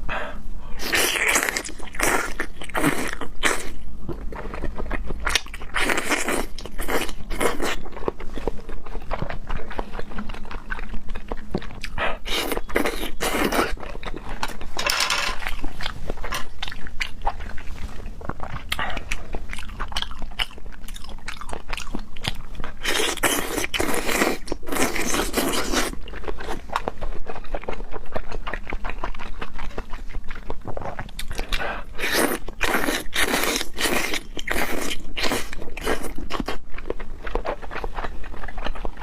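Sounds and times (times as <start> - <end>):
chewing and biting seafood: 0.8 - 39.0.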